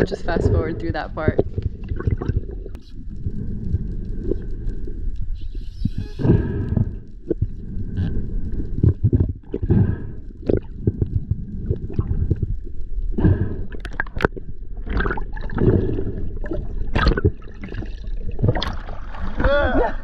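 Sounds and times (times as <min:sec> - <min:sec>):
water rushing and gurgling: 0:00.0 - 0:05.4, 0:06.2 - 0:20.0.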